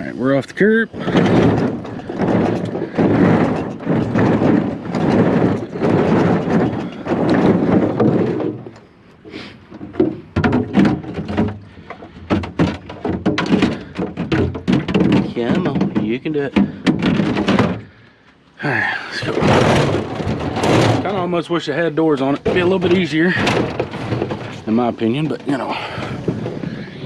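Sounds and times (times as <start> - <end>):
thunks and knocks: 0.0 - 27.0.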